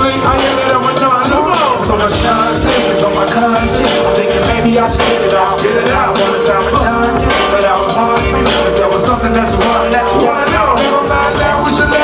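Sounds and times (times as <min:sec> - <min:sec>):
live hip-hop music: 0:00.0 - 0:12.0.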